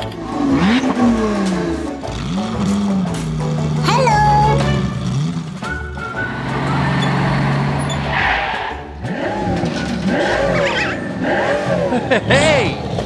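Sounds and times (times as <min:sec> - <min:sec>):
engine drone: 0:00.0 - 0:12.2.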